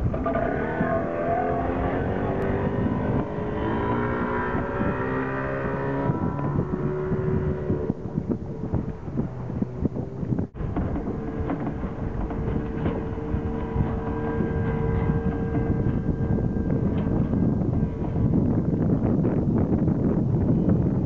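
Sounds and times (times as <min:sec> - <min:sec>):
wind buffeting microphone: 0:00.0 - 0:21.0
outboard motor running: 0:02.2 - 0:21.0.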